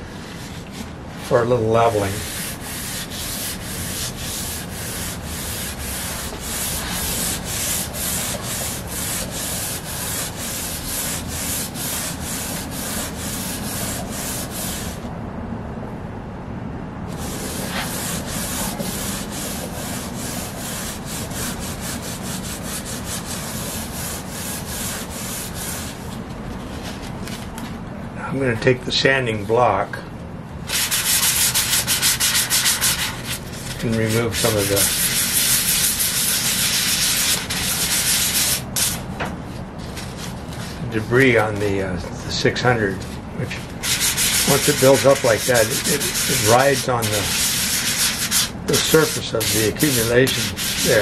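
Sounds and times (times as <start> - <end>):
hand sanding strokes: 0.0 - 15.1, 17.1 - 27.4, 30.7 - 41.8, 43.0 - 51.0.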